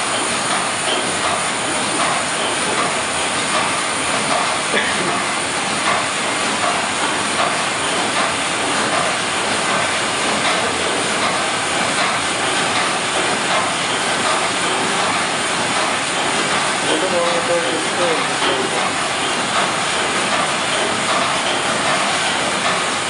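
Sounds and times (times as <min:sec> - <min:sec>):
steam engine running: 0:00.0 - 0:23.0.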